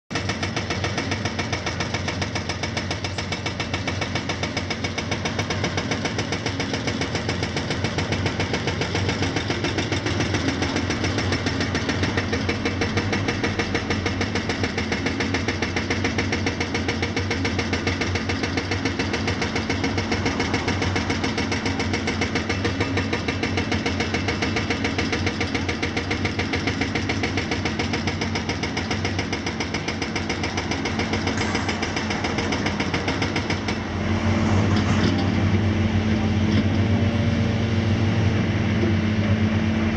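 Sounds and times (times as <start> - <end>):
hydraulic breaker hammering concrete: 0.1 - 37.0
diesel engines under load: 0.1 - 39.9.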